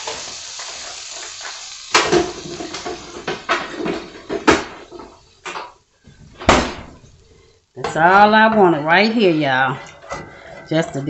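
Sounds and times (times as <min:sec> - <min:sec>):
liquid sizzling faintly: 0:00.0 - 0:11.0
utensil scraping frying pan: 0:00.0 - 0:11.0.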